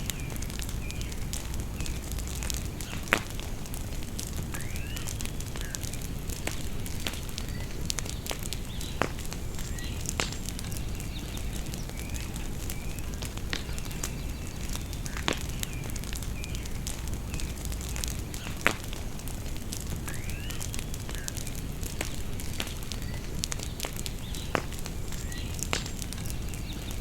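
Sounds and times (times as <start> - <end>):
birds chirping: 0.0 - 27.0
bonfire crackling and popping: 0.0 - 27.0.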